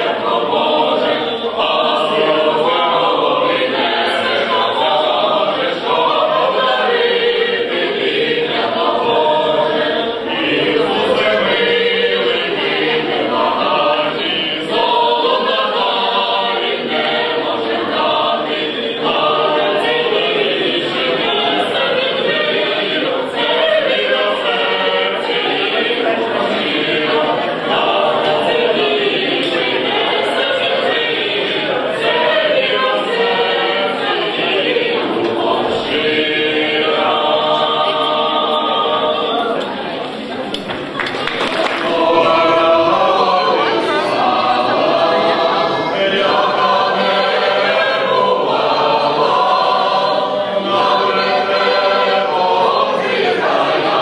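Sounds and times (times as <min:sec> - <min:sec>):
mixed choir singing a carol: 0:00.0 - 0:54.0.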